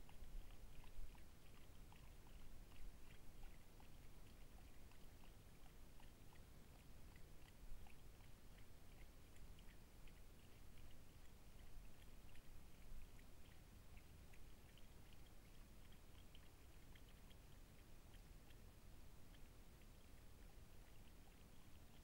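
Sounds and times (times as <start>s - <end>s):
animals lapping water: 0.0s - 22.0s
low steady hiss: 0.0s - 22.0s.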